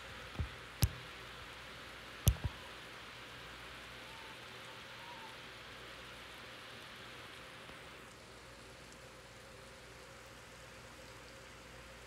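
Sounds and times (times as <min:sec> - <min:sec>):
steady rain through window: 0:00.0 - 0:12.0.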